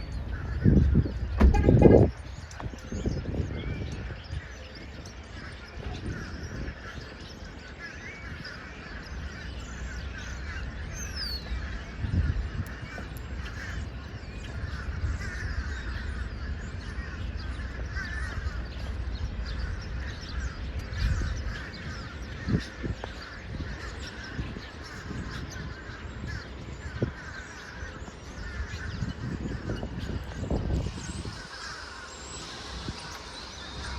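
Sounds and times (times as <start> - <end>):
flock of birds calling: 0.0 - 33.9.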